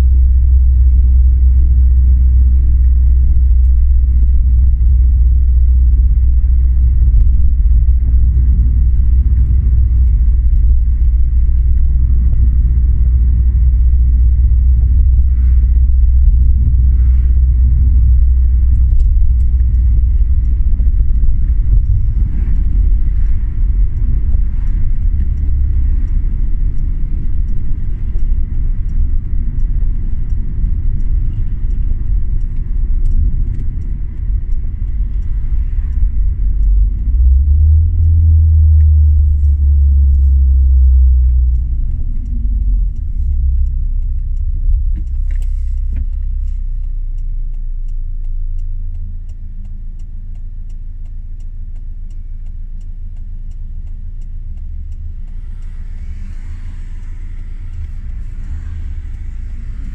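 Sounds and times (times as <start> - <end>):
road and engine rumble in car: 0.0 - 59.9.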